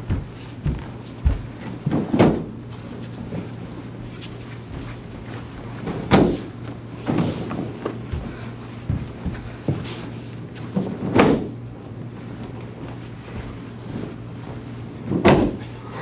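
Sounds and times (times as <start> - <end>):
bodies thudding on gym mats: 0.0 - 2.6, 4.1 - 11.6, 12.8 - 15.7
steady low hum: 0.0 - 16.0.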